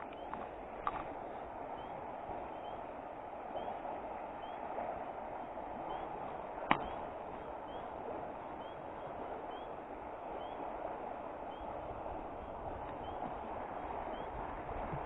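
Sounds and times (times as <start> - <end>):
brook running: 0.0 - 15.0.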